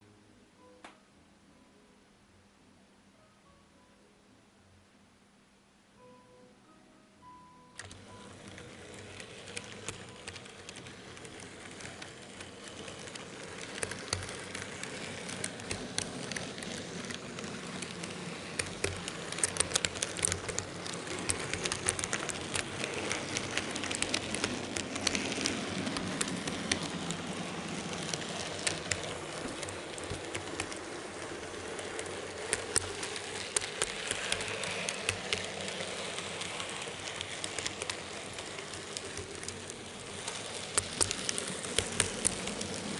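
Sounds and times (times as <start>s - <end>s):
model train wheels and motor rattling: 7.8s - 42.9s
sharp clicks of train track: 7.8s - 42.9s.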